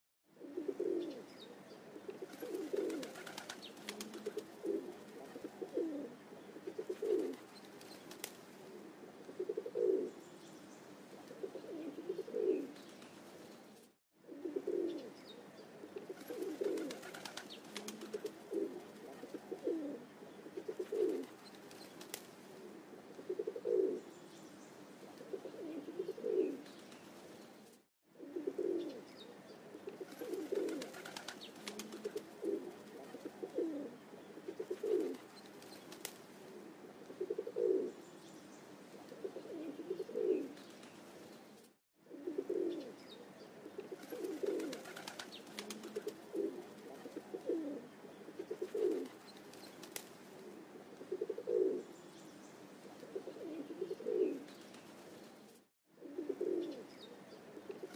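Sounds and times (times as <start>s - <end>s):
low cooing bird calls: 0.3s - 57.9s.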